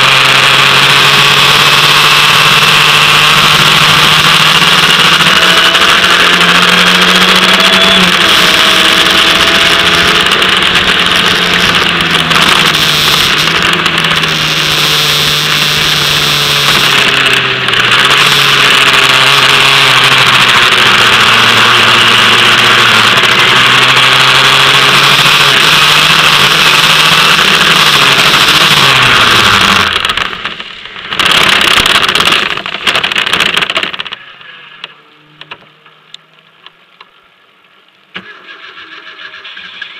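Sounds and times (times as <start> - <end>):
racing car engine running hard: 0.0 - 36.2.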